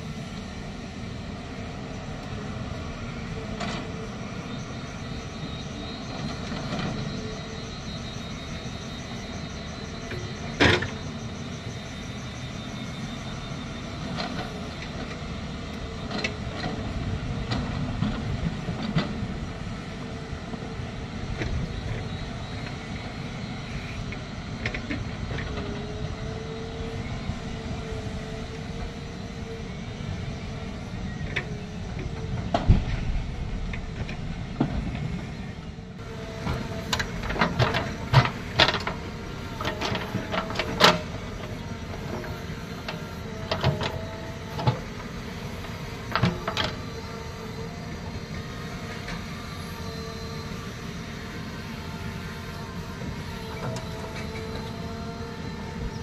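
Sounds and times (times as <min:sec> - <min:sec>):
diesel truck engines rumbling: 0:00.0 - 0:56.0
wavering whine: 0:00.0 - 0:56.0.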